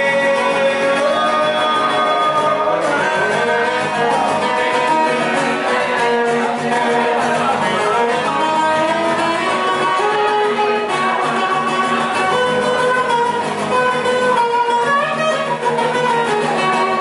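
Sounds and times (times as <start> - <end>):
live rock band music: 0.0 - 17.0
melodic lead guitar: 0.0 - 17.0
strummed guitar: 0.0 - 17.0.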